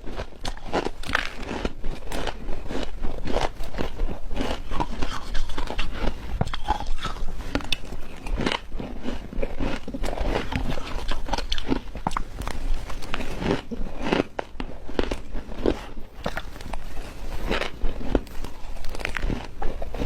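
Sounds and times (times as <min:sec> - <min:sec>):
ice being bitten and chewed: 0:00.0 - 0:20.0.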